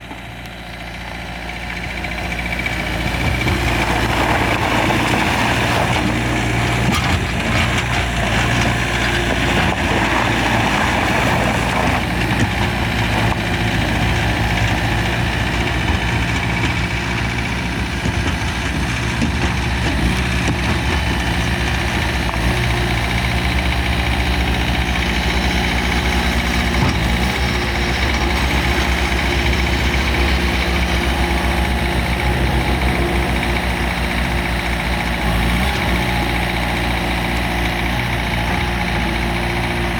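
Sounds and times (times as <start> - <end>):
skid steer diesel engine running: 0.0 - 39.9.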